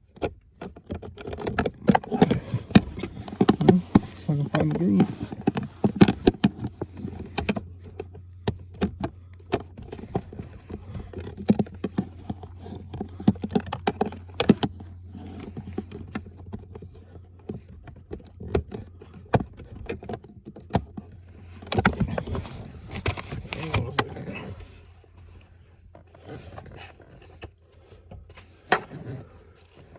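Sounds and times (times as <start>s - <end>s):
plastic clicks taps and scrapes: 0.0s - 24.2s.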